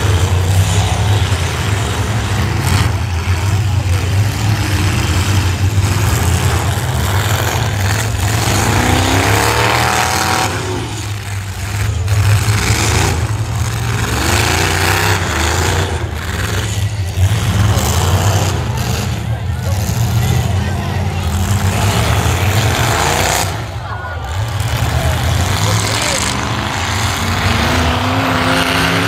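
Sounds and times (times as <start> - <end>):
car engines revving: 0.0 - 29.0
cars hitting each other: 0.0 - 29.0.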